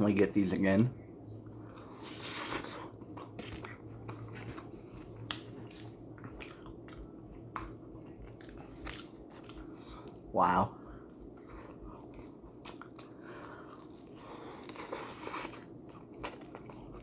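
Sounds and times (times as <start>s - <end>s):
person chewing: 1.0s - 17.0s.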